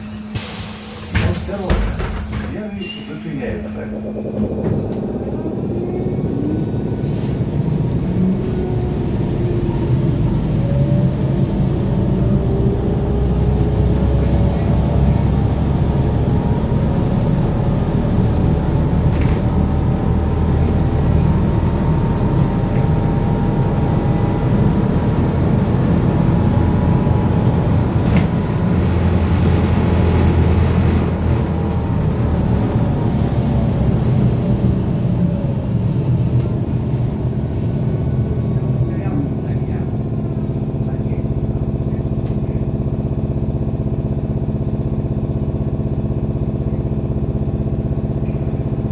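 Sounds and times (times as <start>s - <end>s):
low running rumble: 1.1s - 48.9s.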